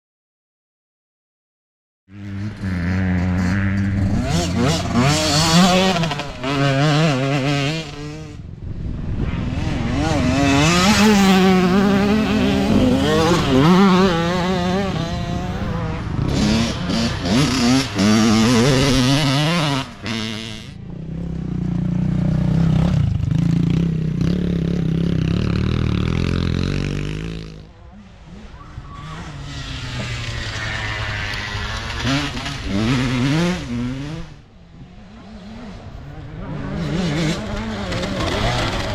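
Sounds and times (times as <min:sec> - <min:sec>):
dirt bike engines revving: 0:02.1 - 0:38.9.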